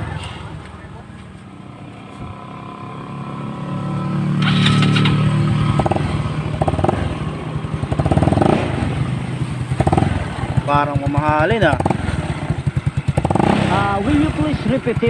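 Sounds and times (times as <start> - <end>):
scooter engine idling and revving: 0.0 - 15.0.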